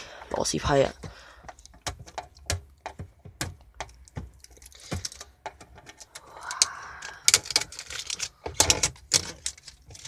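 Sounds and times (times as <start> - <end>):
hard plastic clicking and tapping: 0.0 - 10.0
plastic scraping rub: 0.0 - 10.0
sharp plastic clacks: 0.2 - 10.0.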